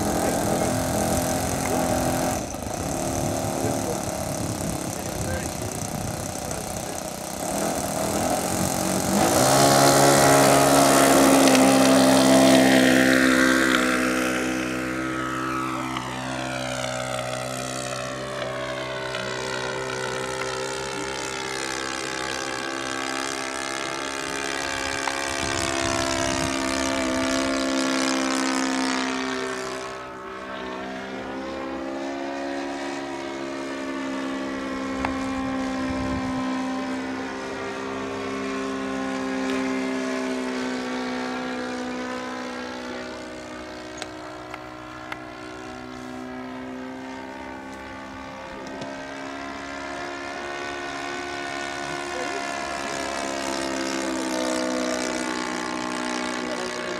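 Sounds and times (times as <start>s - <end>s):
model plane motor and propeller: 0.0s - 56.9s.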